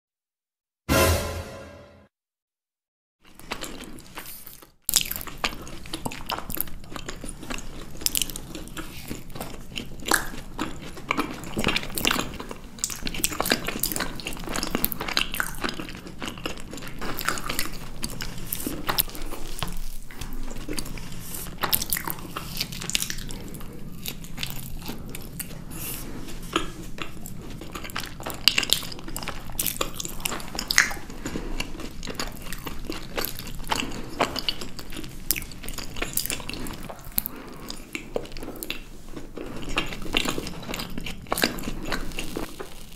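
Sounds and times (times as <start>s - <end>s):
biting and chewing desserts: 3.2s - 42.9s.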